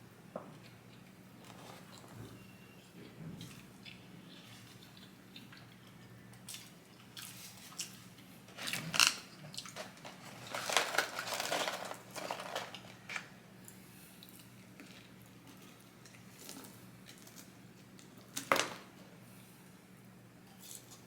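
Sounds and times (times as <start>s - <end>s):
crunchy chewing of food: 0.5s - 18.4s, 20.4s - 21.0s.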